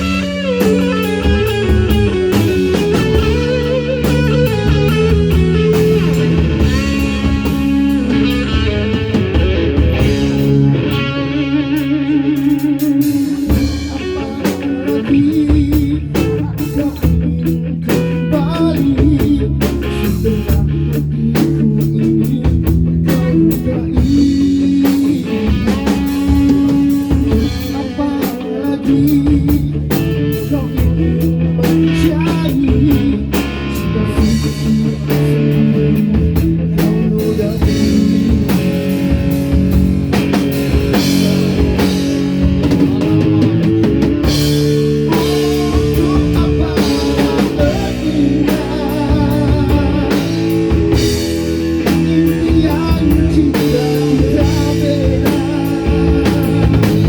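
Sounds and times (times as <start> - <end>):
bass: 0.0 - 57.0
drum kit: 0.0 - 57.0
electric guitar: 0.0 - 57.0.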